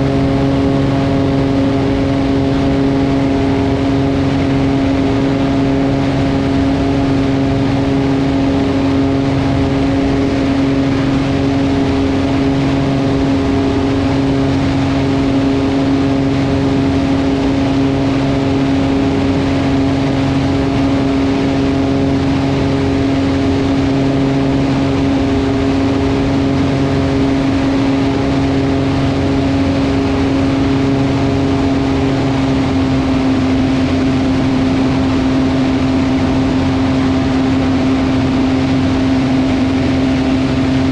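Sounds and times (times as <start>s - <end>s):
aircraft engines and propellers: 0.0s - 40.9s.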